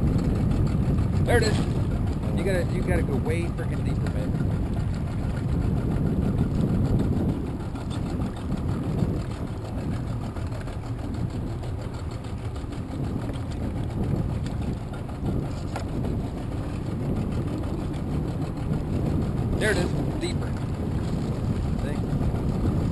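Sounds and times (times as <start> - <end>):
outboard motor idling: 0.0 - 22.9.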